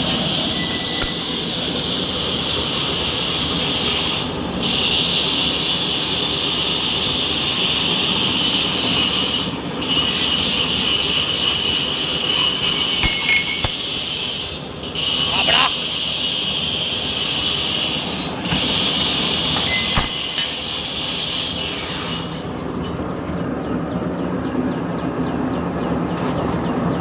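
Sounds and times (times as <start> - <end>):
machine whirring and whining: 0.0 - 26.8.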